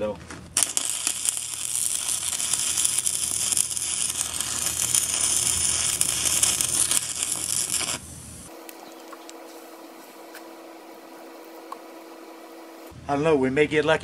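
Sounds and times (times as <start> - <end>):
welding arc crackling: 0.6 - 12.9.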